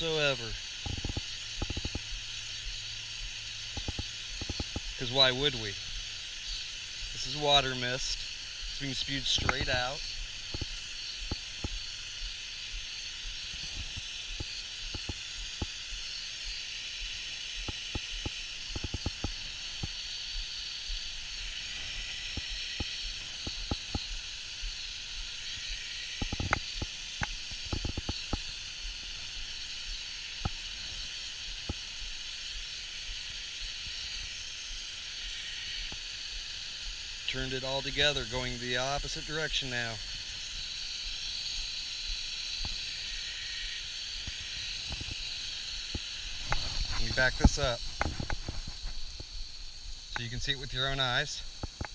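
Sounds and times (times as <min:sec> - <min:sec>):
water mist spraying hiss: 0:00.0 - 0:51.9.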